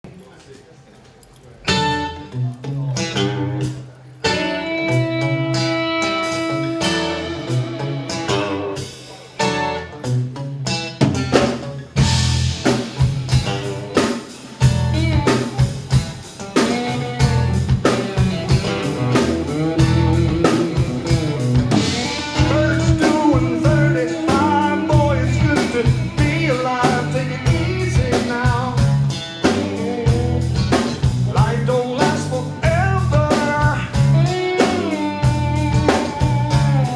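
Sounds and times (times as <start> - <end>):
electric guitar notes: 1.6 - 36.9
drums and bass beat: 2.9 - 36.9.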